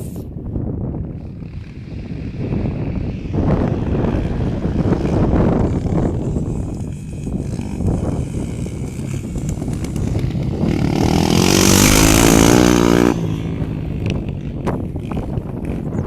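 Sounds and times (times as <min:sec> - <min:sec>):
wind on microphone: 0:00.0 - 0:16.0
motorcycle engine running: 0:00.6 - 0:16.0.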